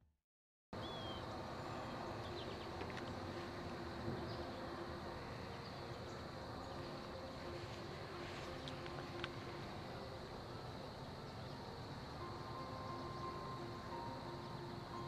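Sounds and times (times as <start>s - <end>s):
insects buzzing: 0.8s - 15.0s.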